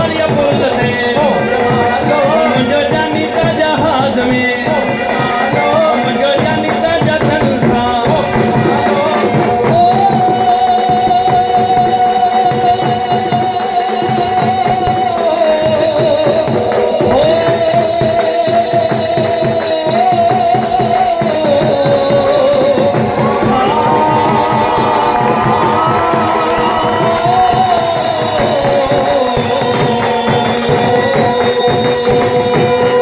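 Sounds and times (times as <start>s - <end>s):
fast drum beat: 0.0s - 33.0s.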